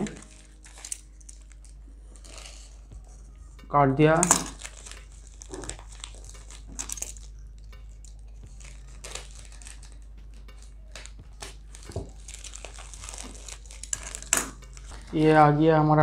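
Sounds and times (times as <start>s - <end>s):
plastic bag crinkling: 0.0s - 15.6s.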